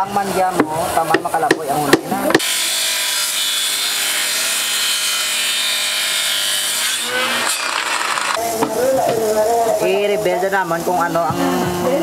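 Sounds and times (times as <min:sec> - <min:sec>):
circular saw cutting plywood: 0:00.0 - 0:10.0.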